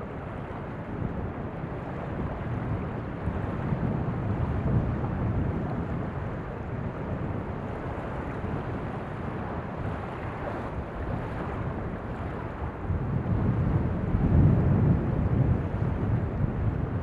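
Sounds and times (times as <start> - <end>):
small waves washing ashore: 0.0 - 17.0
wind buffeting microphone: 0.0 - 17.0.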